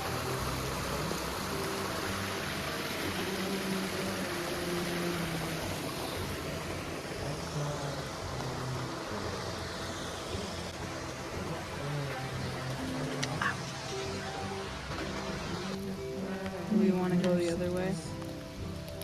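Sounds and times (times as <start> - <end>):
flowing creek water: 0.0 - 19.0
soft background music: 0.0 - 19.0.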